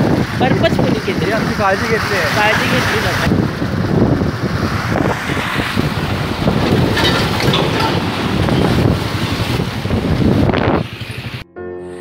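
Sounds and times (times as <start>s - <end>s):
road and traffic noise: 0.0s - 11.4s
wind buffeting microphone: 0.0s - 11.4s.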